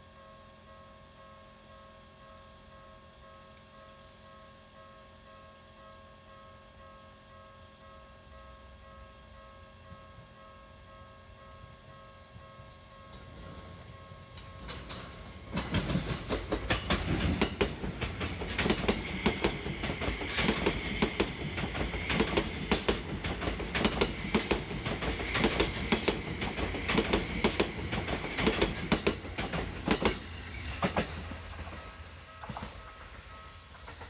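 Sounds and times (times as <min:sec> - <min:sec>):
electric train passing: 0:00.0 - 0:34.0.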